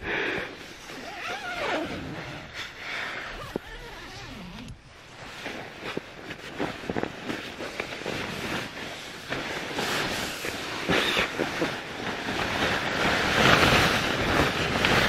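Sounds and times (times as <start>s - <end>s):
foil and nylon fabric crinkling: 0.5s - 15.0s.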